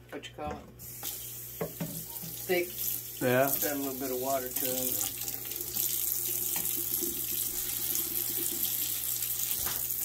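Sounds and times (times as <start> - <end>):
faucet running into metal sink: 1.6 - 10.0.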